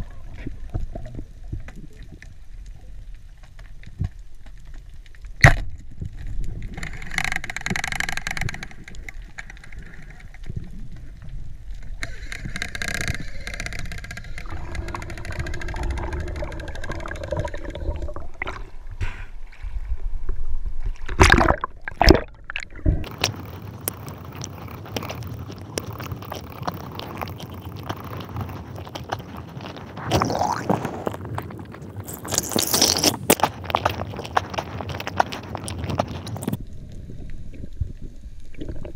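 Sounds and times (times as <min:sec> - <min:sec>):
underwater gurgling and sloshing: 0:00.0 - 0:38.9.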